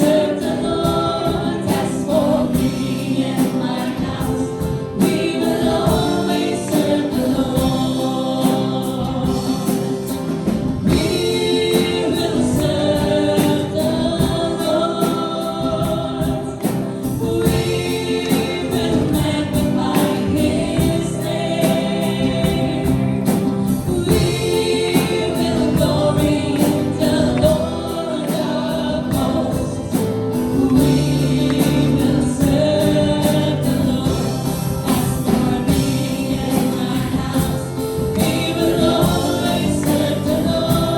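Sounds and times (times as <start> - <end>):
band accompaniment with steady beat: 0.0 - 40.9
group singing gospel song: 0.0 - 40.9.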